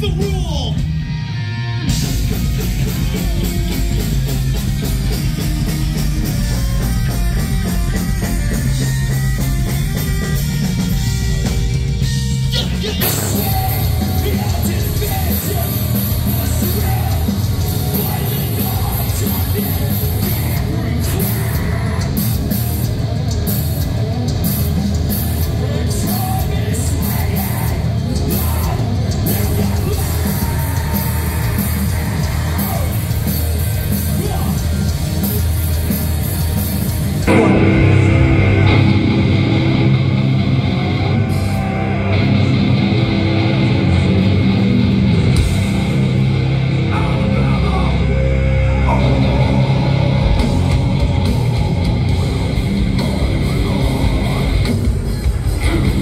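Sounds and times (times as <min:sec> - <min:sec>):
heavier band playing: 0:00.0 - 0:56.0
live rock band with vocals: 0:00.0 - 0:56.0.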